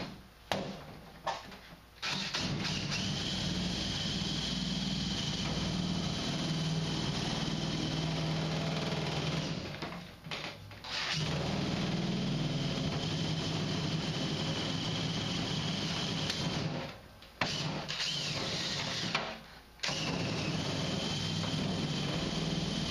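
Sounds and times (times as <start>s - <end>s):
drill with metal shear cutting: 2.0s - 9.8s, 10.8s - 22.9s.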